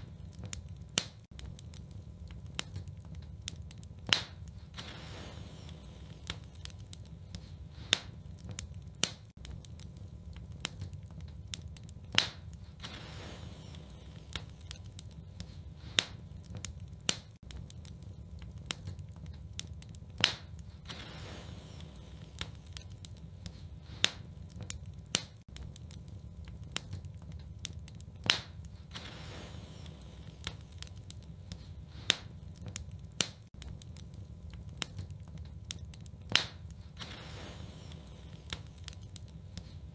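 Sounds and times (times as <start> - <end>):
fire crackling and popping: 0.0 - 39.9
fire flames rumbling: 0.0 - 39.9.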